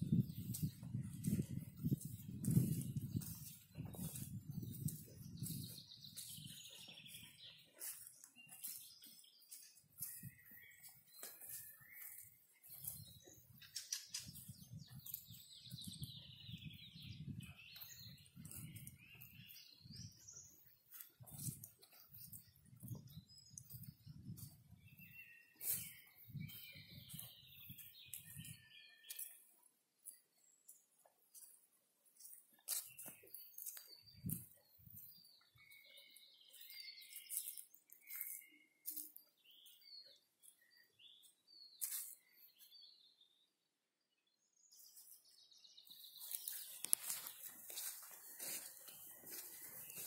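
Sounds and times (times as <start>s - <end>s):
footsteps on dirt track: 0.0s - 42.8s, 45.9s - 50.0s
small birds chirping: 0.0s - 50.0s.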